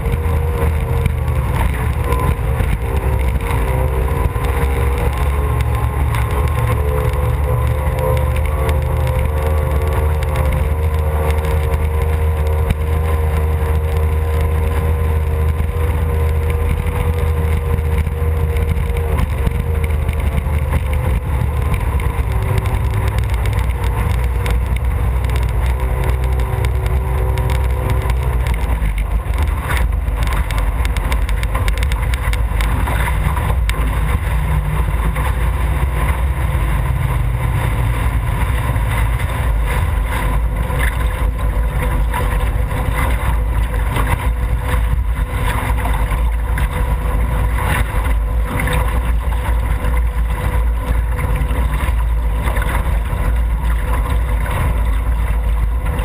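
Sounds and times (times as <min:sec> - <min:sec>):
outboard engine running: 0:00.0 - 0:56.0
wind buffeting microphone: 0:00.0 - 0:56.0.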